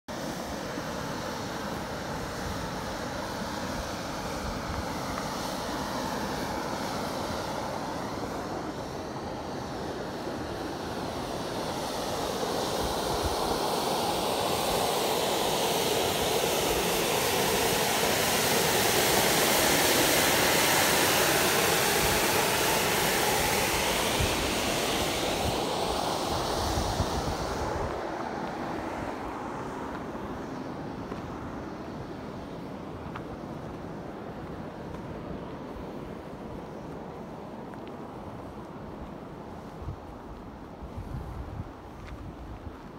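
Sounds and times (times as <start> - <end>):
steam venting with jet-like roar: 0.1 - 42.9.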